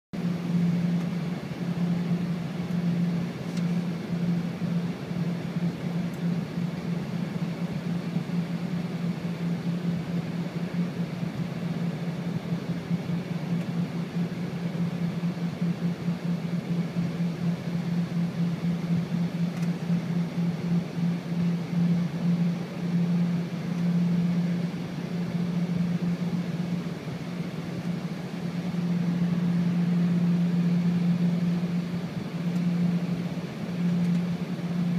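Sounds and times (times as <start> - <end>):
jet cabin low drone: 0.2 - 34.9.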